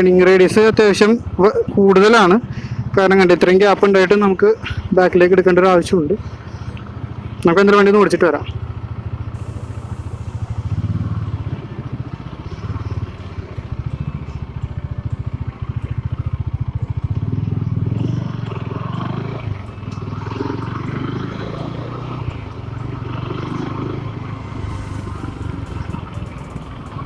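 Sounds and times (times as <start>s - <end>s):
motorcycle engine running low revs: 0.0s - 27.0s.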